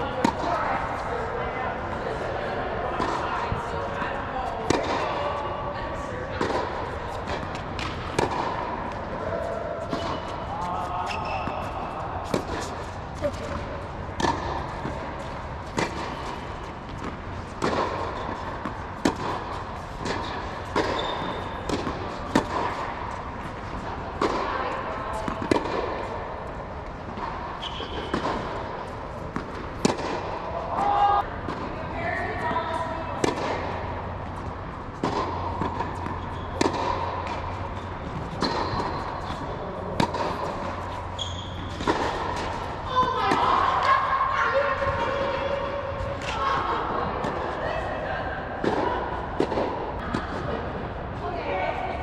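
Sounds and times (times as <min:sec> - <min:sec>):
racquets hitting tennis balls: 0:00.0 - 0:47.6, 0:48.5 - 0:50.8.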